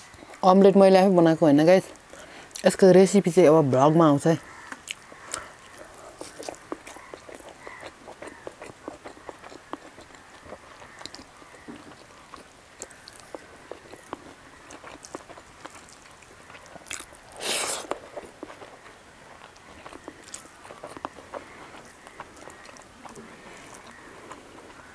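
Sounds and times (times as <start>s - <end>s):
close chewing and mouth smacks: 1.7s - 2.7s, 4.5s - 24.9s.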